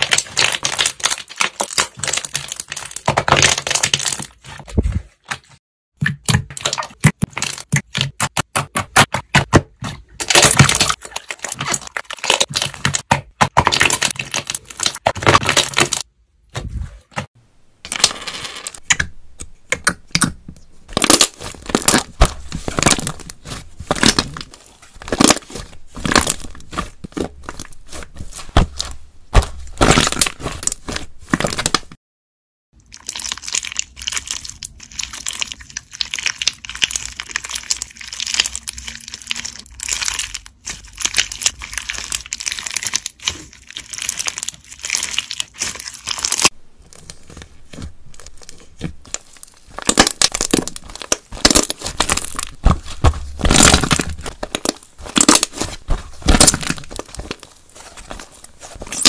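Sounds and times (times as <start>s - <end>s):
slime crackling and popping: 0.0s - 4.6s, 6.3s - 16.0s, 20.9s - 31.9s, 32.9s - 59.0s.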